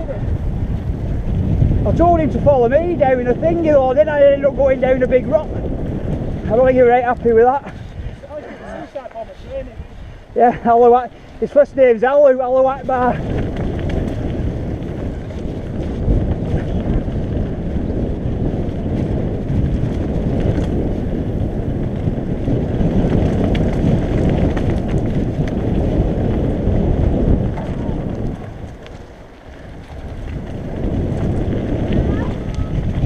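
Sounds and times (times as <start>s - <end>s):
bike tyres rolling on gravel: 0.0s - 33.0s
wind buffeting microphone: 0.0s - 33.0s.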